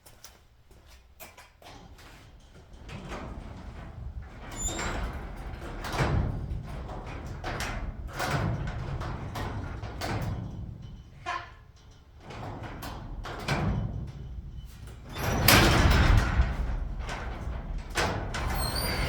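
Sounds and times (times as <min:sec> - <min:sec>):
metal garage door rattling: 0:01.7 - 0:19.0.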